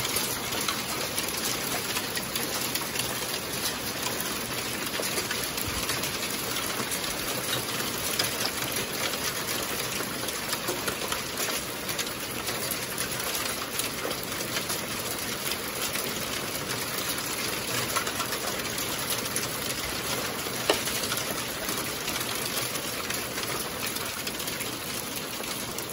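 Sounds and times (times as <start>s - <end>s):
rain and hail pattering: 0.0s - 25.9s.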